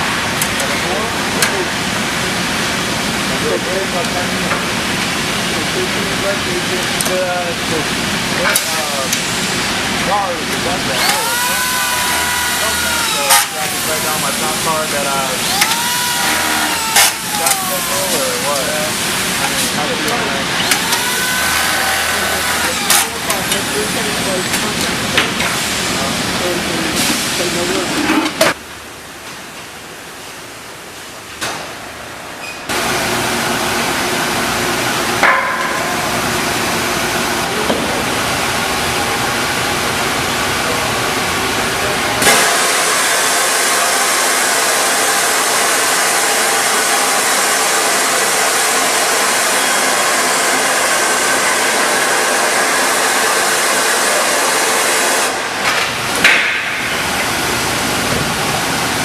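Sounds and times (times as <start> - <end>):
factory machinery hissing: 0.0 - 28.6, 32.7 - 59.0.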